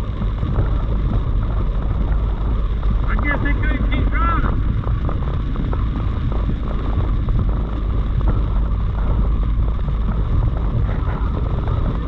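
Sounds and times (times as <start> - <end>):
heavy rain on car roof: 0.0 - 12.0
road and wind rumble: 0.0 - 12.0.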